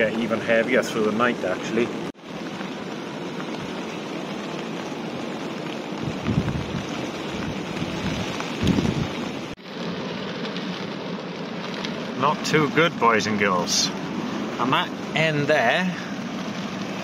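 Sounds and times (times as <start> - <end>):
heavy rain on canvas tent: 0.0 - 17.0
low rumbling wind gusts: 0.0 - 17.0.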